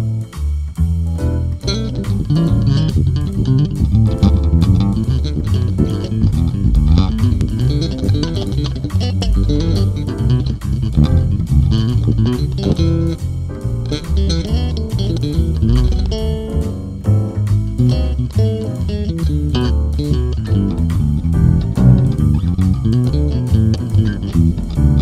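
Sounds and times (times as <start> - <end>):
electric bass plucked fingerstyle: 0.0 - 25.0.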